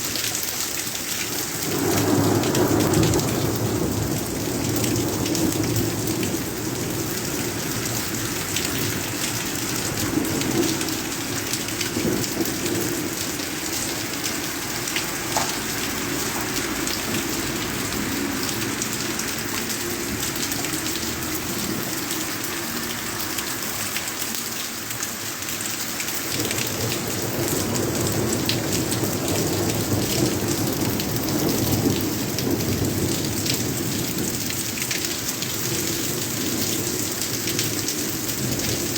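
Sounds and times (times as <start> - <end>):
heavy rain: 0.0 - 38.9
raindrops ticking on hard surface: 0.0 - 38.9.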